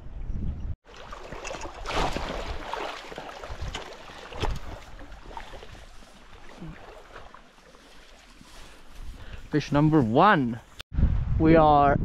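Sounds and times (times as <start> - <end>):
water splashing and sloshing: 0.8 - 10.8.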